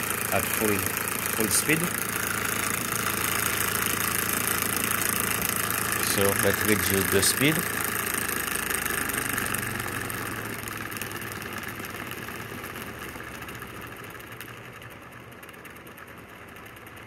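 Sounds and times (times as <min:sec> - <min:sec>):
electric motor pulsing buzz: 0:00.0 - 0:14.5.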